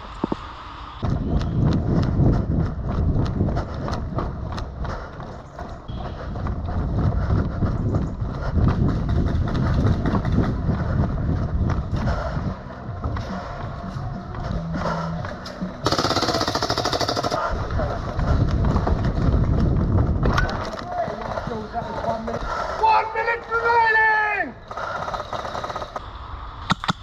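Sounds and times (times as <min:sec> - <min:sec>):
running footsteps: 0:01.0 - 0:23.7.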